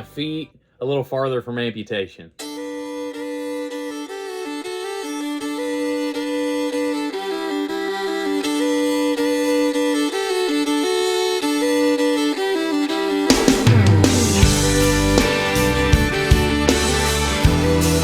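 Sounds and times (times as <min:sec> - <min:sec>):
fiddle playing lively melody: 0:00.0 - 0:00.4, 0:02.4 - 0:18.0.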